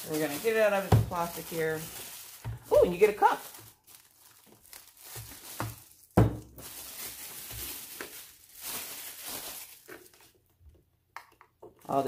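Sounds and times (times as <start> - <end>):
plastic wrapping crinkling: 0.0 - 10.6.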